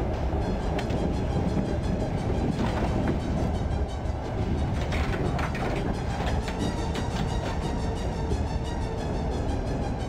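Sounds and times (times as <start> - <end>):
moving train rumble: 0.0 - 10.0.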